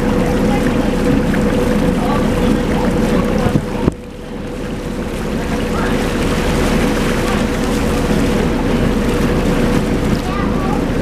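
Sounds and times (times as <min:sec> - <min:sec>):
boat motor humming: 0:00.0 - 0:11.0
water rushing along hull: 0:00.0 - 0:11.0.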